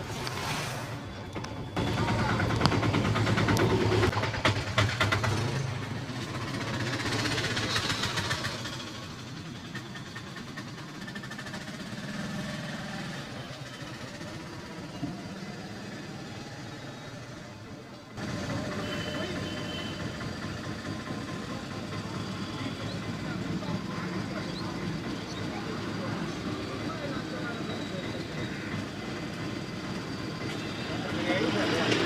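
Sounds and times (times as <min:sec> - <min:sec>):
street background noise: 0:00.0 - 0:32.0.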